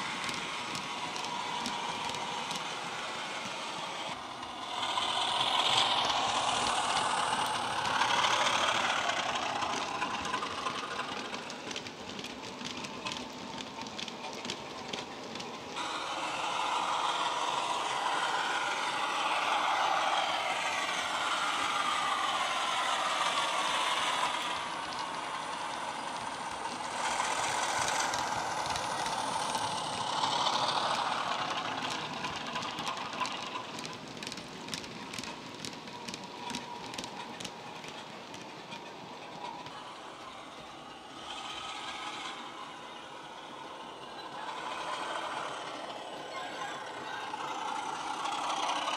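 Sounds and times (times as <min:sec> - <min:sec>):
model train wheels clicking: 0:00.0 - 0:48.9.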